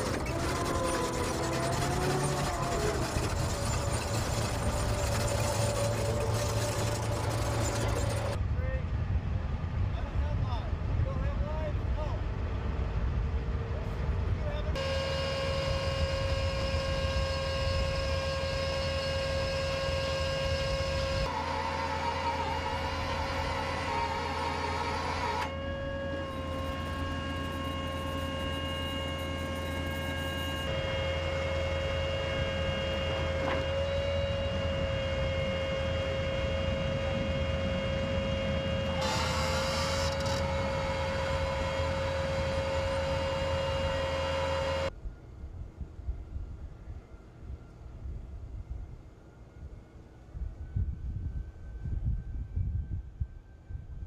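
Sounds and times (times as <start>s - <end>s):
machine whining over low rumble: 0.0s - 54.0s.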